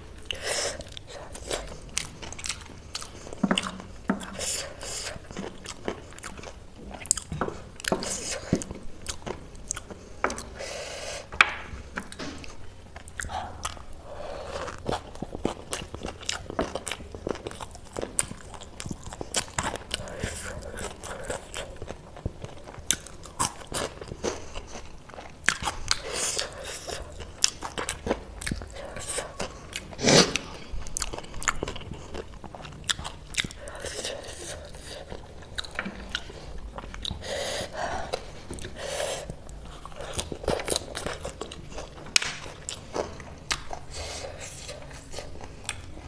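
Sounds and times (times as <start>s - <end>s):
chewing and crunching noodles: 0.0s - 11.0s, 12.1s - 46.0s.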